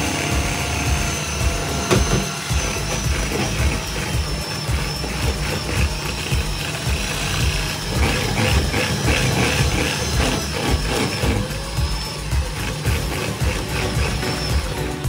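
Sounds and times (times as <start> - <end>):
background music: 0.0 - 15.0
small electric motor running: 0.0 - 15.0.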